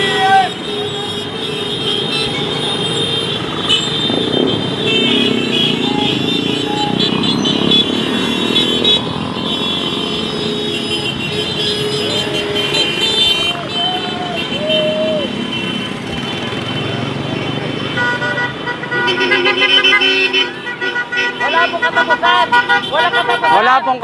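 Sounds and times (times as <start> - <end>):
cars passing: 0.0 - 24.0
motorcycles passing: 0.0 - 24.0.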